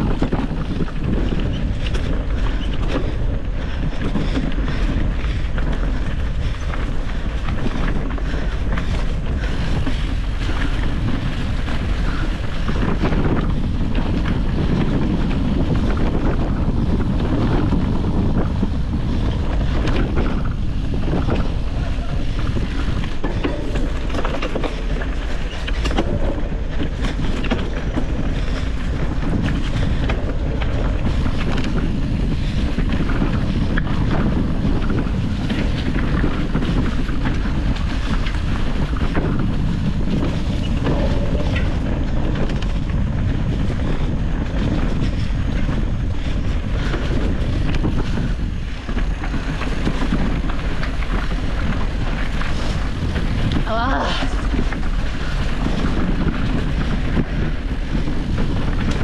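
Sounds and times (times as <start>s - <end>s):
bike knocks and rattles: 0.0s - 59.0s
wind buffeting microphone: 0.0s - 59.0s.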